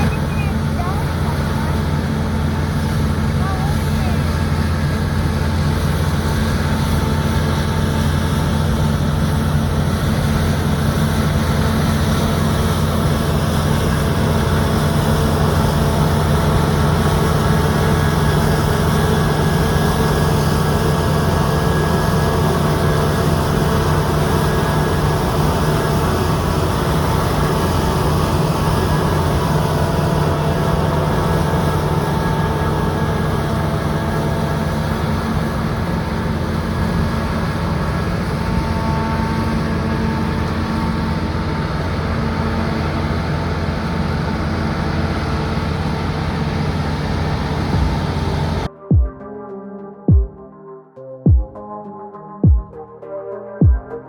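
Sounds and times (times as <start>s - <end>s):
machinery whine: 0.0s - 49.0s
engine low drone: 0.0s - 49.2s.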